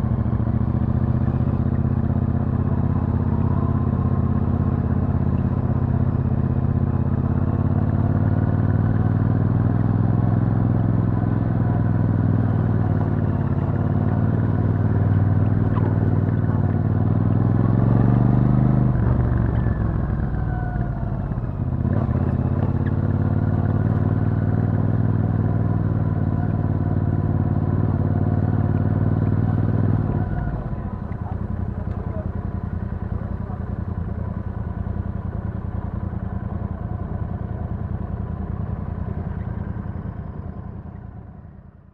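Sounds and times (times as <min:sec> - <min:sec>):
motorcycle engine while riding: 0:00.0 - 0:41.9.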